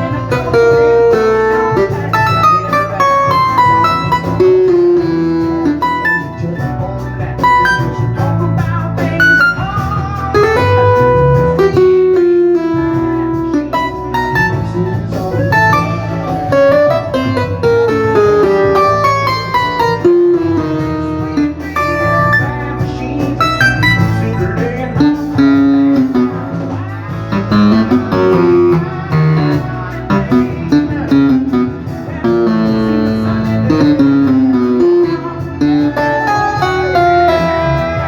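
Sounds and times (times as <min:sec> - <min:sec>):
electric piano and organ melody: 0:00.0 - 0:38.0
steady bass line: 0:00.0 - 0:38.0.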